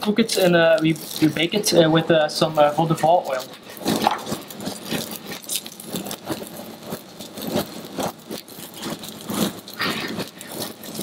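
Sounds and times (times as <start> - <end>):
food sizzling on a hot plate: 0.0 - 11.0.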